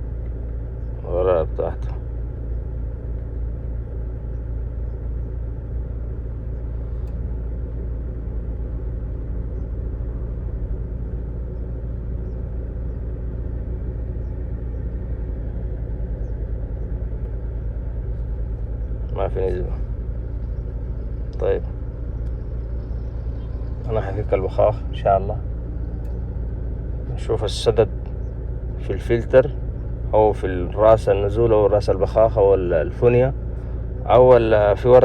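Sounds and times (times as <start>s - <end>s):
diesel engine idling with misfire: 0.0s - 35.0s.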